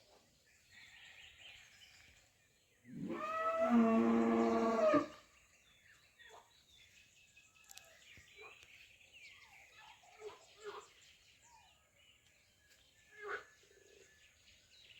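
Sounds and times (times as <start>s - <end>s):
faint bird chirping: 0.0s - 14.9s.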